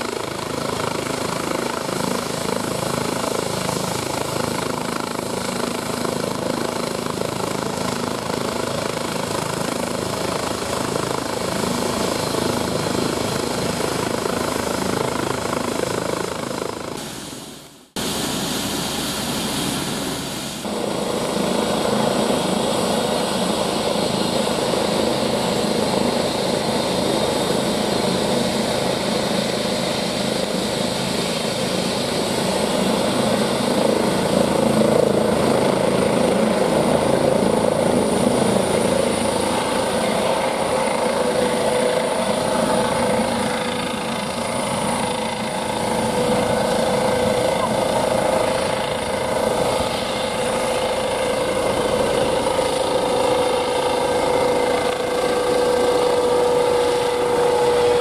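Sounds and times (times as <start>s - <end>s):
helicopter rotor and turbine noise: 0.0s - 58.0s
high turbine whine: 0.0s - 58.0s.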